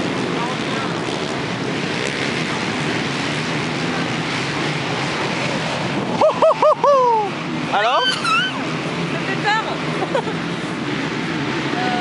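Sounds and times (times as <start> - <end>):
racing quad engines droning: 0.0 - 12.0.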